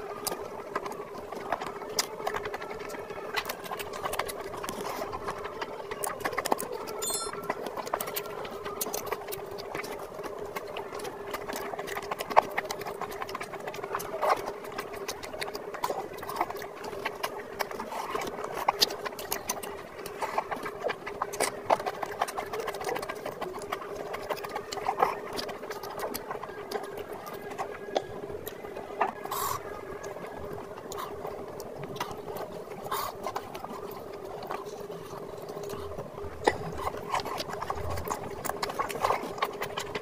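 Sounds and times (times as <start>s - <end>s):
chewing and lip smacks: 0.0s - 40.0s.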